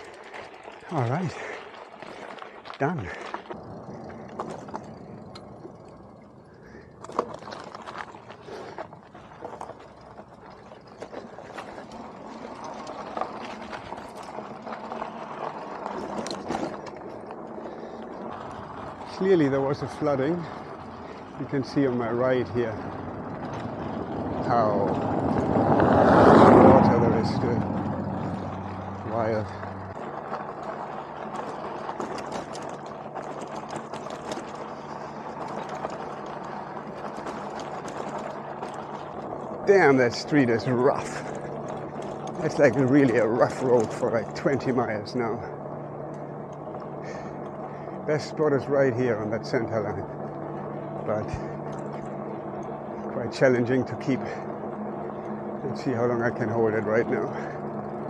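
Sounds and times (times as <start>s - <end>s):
rattles and clicks: 0.0s - 58.0s
road noise: 0.0s - 58.0s
faint electric motor hum: 3.1s - 58.0s.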